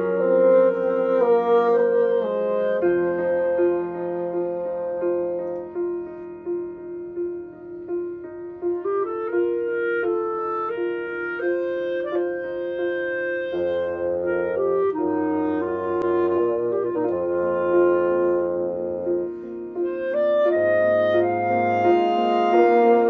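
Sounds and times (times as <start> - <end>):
clarinet melody: 0.0 - 23.0
piano repeating figure: 0.0 - 23.0.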